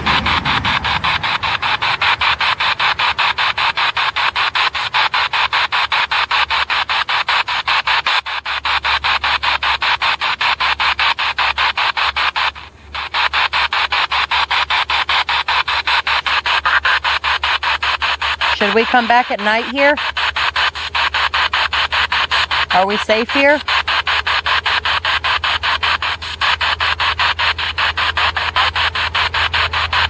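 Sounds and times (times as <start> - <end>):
choppy radio static bursts: 0.0 - 30.0.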